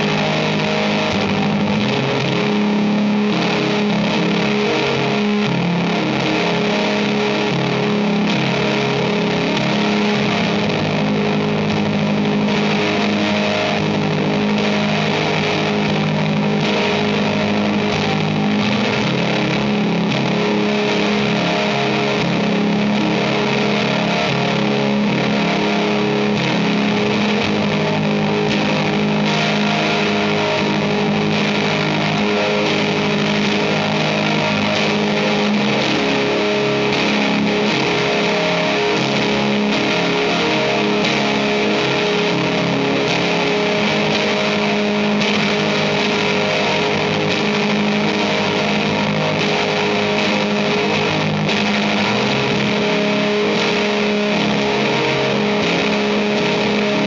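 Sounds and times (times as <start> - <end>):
electric guitar with heavy reverb: 0.0 - 57.0.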